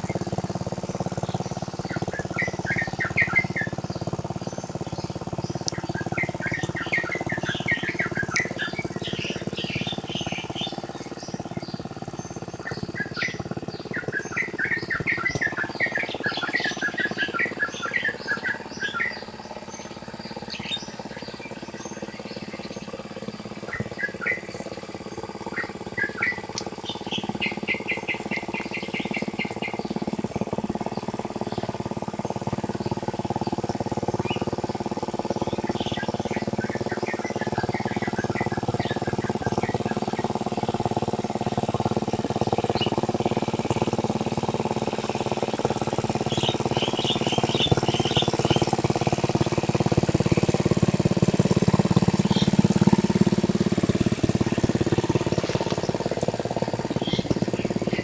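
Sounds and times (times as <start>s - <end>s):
hand tractor engine running: 0.0s - 58.0s
small birds chirping: 0.0s - 58.0s.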